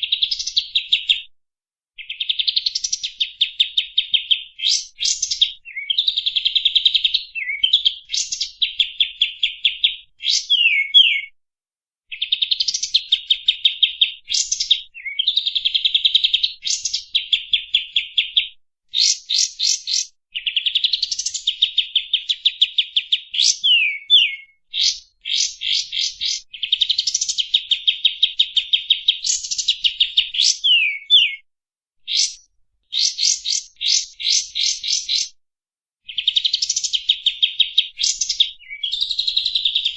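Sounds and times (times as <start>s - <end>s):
songbird singing trills and whistles: 0.0s - 1.3s, 2.0s - 11.4s, 12.1s - 31.5s, 32.1s - 35.4s, 36.1s - 39.9s.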